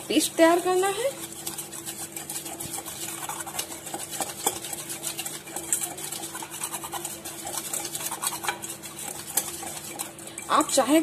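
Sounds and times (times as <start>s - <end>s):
metal spoon scraping bowl: 0.0s - 11.0s.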